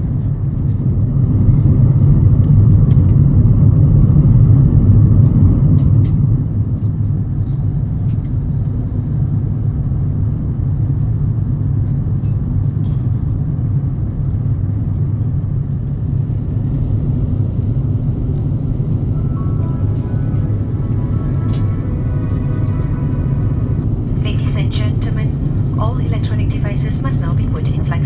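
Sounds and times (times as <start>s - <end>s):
aircraft cabin rumble in flight: 0.0s - 28.0s.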